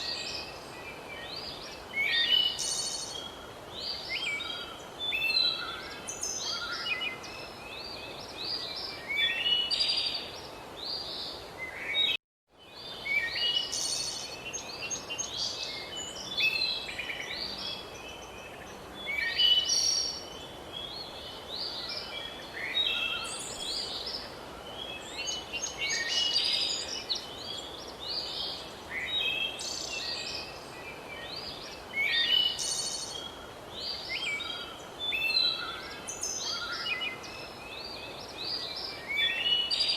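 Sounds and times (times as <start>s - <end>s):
faint outdoor hiss: 0.0s - 39.9s
songbirds chirping: 0.0s - 39.9s.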